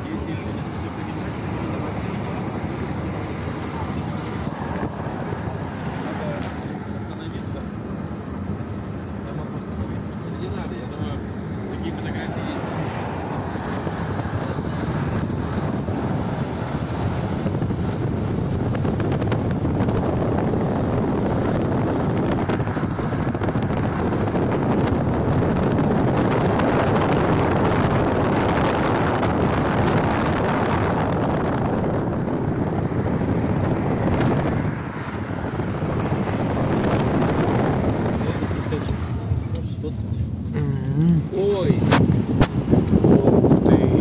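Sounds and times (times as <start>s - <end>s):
car road and wind noise: 0.0s - 44.0s.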